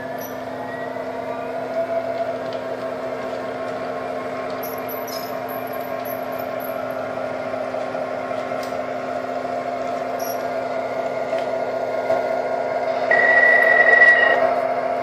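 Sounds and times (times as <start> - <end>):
diesel engine sound effect: 0.0 - 15.0
model train motor hum: 0.0 - 15.0.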